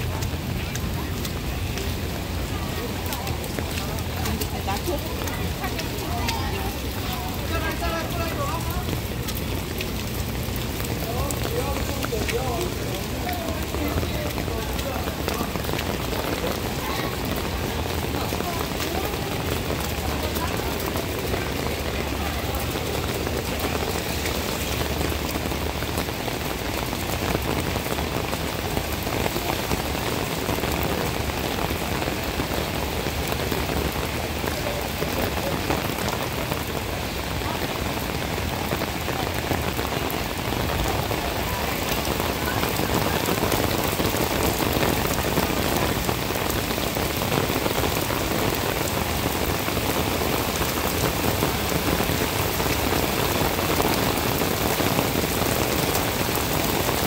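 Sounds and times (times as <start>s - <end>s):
heavy rain on stone paving: 0.0s - 57.0s.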